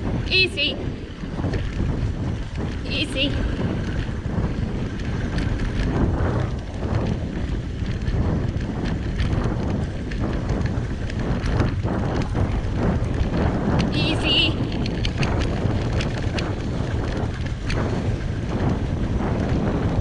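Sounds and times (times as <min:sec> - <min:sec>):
bicycle tyre noise: 0:00.0 - 0:20.0
bike rattling and knocking: 0:00.0 - 0:20.0
wind buffeting microphone: 0:00.0 - 0:20.0.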